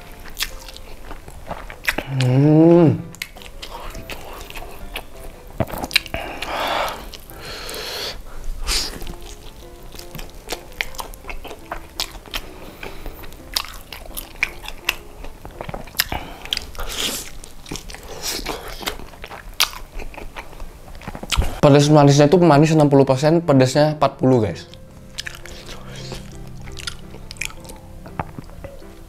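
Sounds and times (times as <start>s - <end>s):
wet chewing and crunching: 0.0s - 21.6s, 24.7s - 29.0s.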